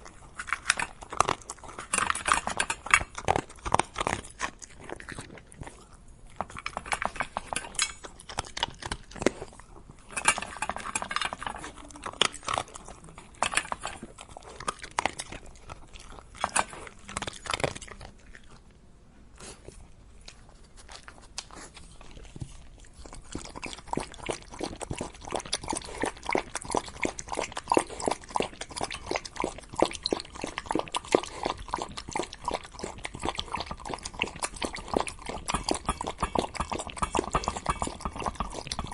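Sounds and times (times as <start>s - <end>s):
dog crunching food: 0.0s - 18.8s, 19.4s - 38.9s.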